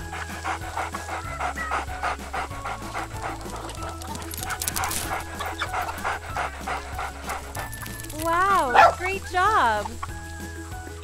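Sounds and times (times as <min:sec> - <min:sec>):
dog panting: 0:00.0 - 0:10.2
background music with bass line: 0:00.0 - 0:11.0.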